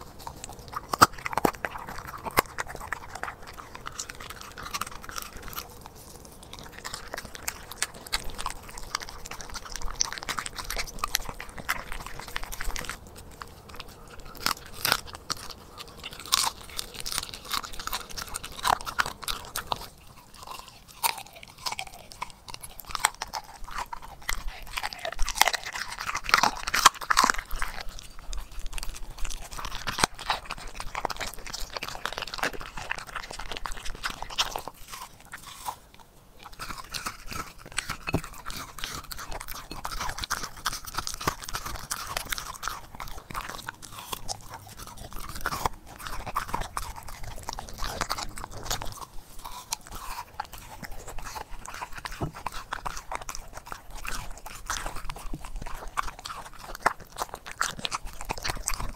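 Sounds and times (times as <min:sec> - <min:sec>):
dog chewing with crunches: 0:00.0 - 0:58.9.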